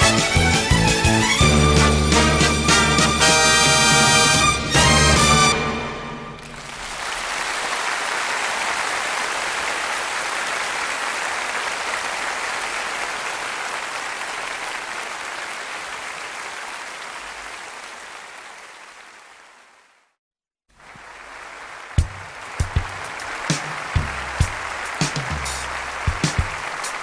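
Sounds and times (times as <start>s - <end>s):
audience applause: 0.0s - 20.1s, 20.7s - 27.0s.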